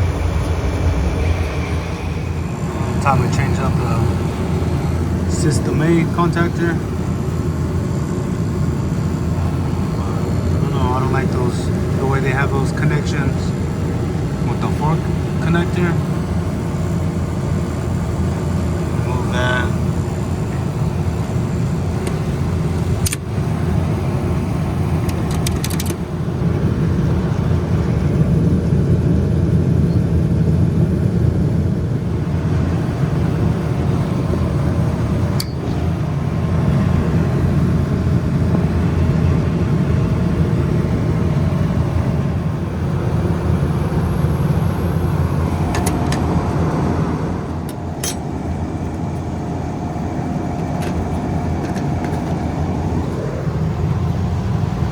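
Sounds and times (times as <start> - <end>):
refrigeration machinery drone: 0.0 - 54.9.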